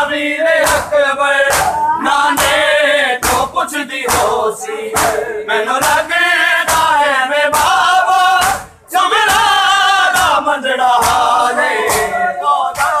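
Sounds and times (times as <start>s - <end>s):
men chanting in unison: 0.0s - 13.0s
chest beating slaps: 0.6s - 2.6s, 3.2s - 13.0s.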